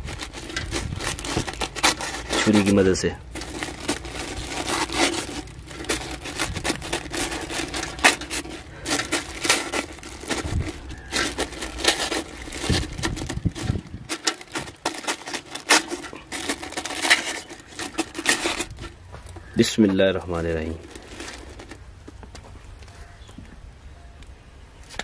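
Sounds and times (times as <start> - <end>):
paper crinkling and crackling: 0.0 - 23.1.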